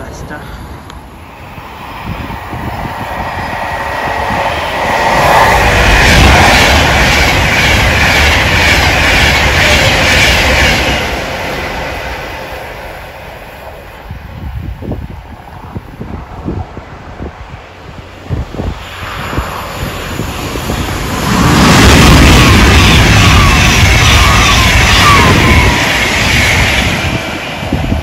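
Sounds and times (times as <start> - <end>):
train wheels rushing on rail: 1.0 - 28.0.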